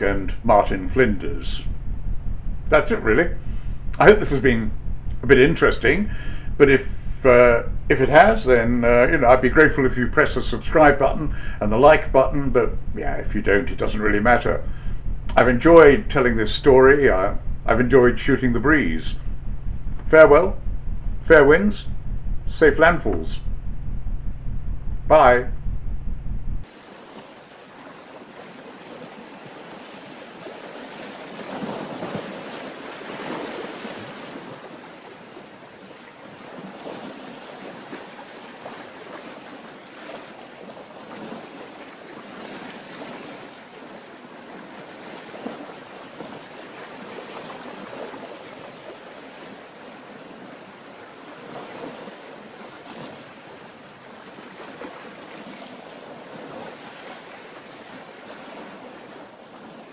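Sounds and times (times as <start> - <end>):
sea waves: 0.0 - 1.8, 2.7 - 19.2, 26.6 - 59.9
wind: 0.0 - 59.9.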